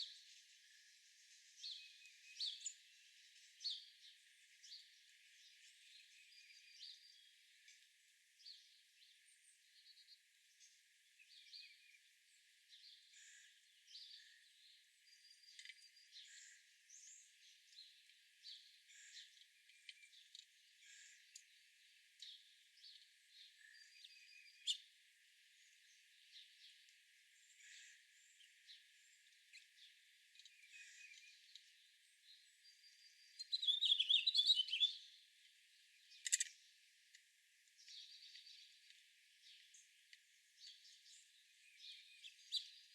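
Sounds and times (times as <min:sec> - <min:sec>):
wild birds chirping: 0:00.0 - 0:42.9
rapid warbling birdsong: 0:08.4 - 0:42.9.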